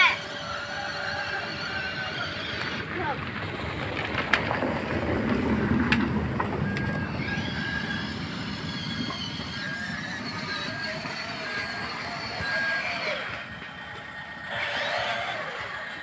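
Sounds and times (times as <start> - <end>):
toy truck motor whirring: 0.0 - 4.6, 5.9 - 16.0.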